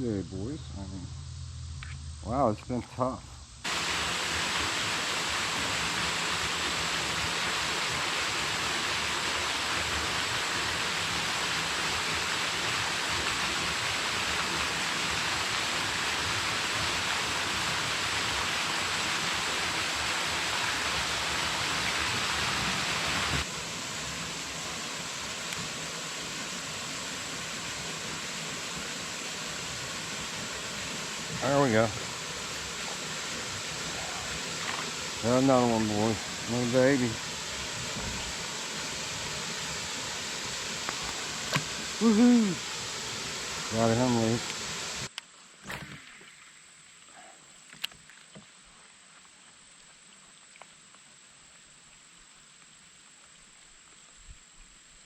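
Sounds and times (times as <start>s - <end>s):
rushing water hiss: 0.0s - 55.0s.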